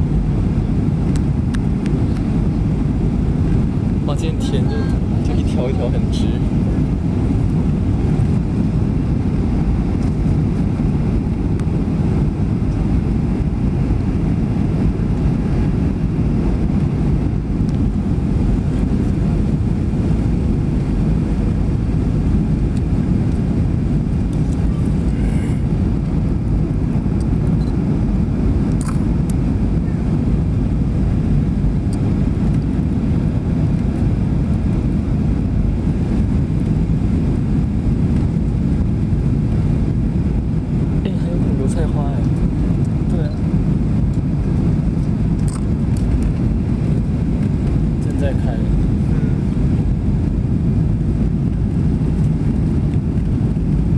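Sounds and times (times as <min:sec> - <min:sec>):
airliner engines rumbling in cabin: 0:00.0 - 0:53.9.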